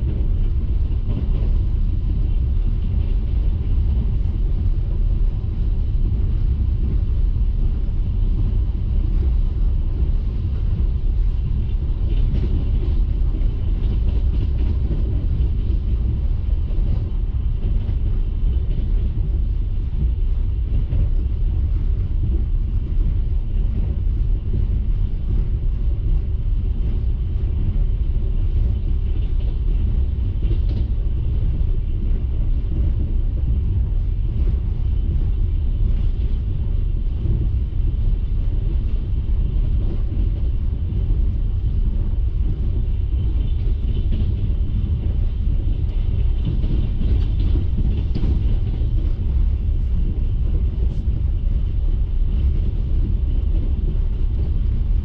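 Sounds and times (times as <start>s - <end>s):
train carriage rumbling on track: 0.0s - 55.0s.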